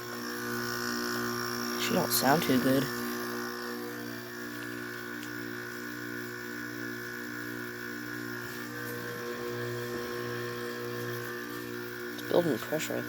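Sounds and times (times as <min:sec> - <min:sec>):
window air conditioner humming: 0:00.0 - 0:13.0.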